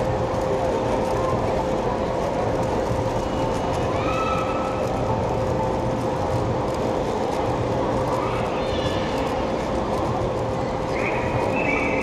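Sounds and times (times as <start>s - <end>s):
crowded hall din: 0.0s - 12.0s.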